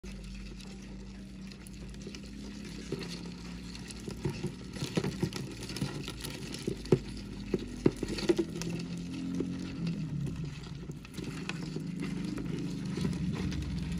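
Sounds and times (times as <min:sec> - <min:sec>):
beetle claws scratching on plastic: 0:00.0 - 0:13.9.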